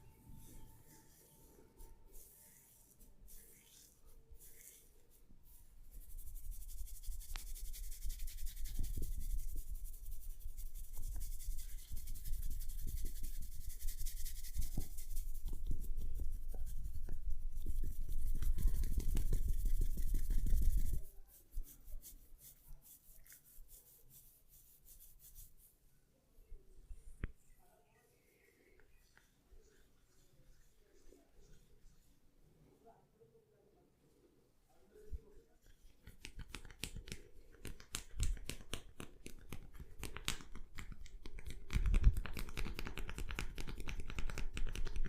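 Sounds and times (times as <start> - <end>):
hands scrubbing hair: 0.4 - 25.7, 28.8 - 32.1, 35.6 - 45.0.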